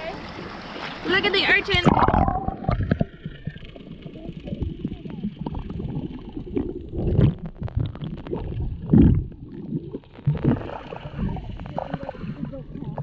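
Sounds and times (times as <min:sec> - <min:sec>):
muffled water sloshing and gurgling: 0:00.0 - 0:13.0.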